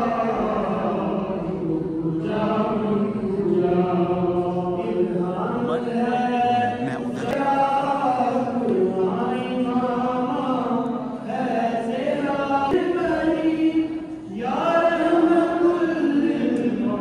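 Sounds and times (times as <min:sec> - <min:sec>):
voices chanting unaccompanied: 0:00.0 - 0:17.0.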